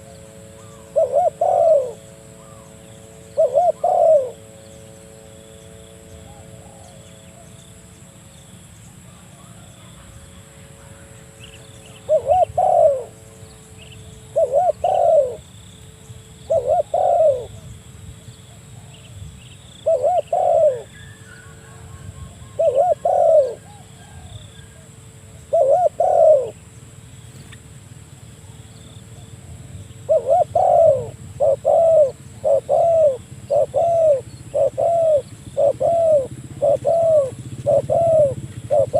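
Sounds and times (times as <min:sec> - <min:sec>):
dove cooing: 0:00.0 - 0:08.3, 0:09.0 - 0:15.6, 0:16.3 - 0:26.7, 0:28.4 - 0:38.9.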